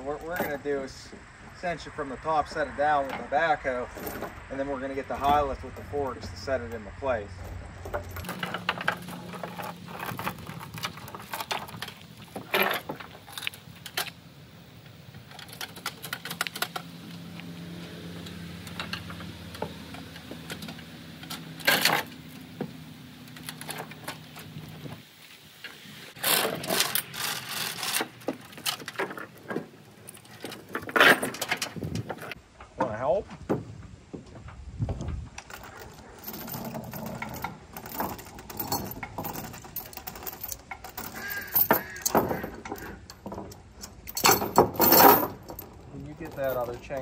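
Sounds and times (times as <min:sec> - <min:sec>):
chains clanking on metal and wood: 0:00.0 - 0:25.0, 0:26.2 - 0:33.8, 0:34.9 - 0:47.0.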